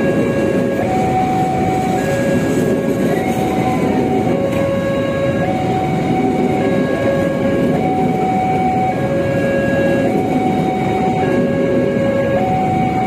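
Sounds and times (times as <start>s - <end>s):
level crossing two-tone alarm: 0.0s - 13.0s
train wheels rumbling on rails: 0.0s - 13.0s.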